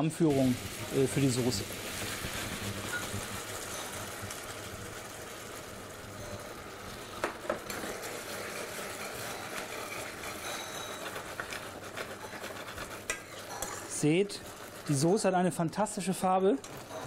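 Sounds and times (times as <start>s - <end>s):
saucepan steaming hiss: 0.0s - 17.0s.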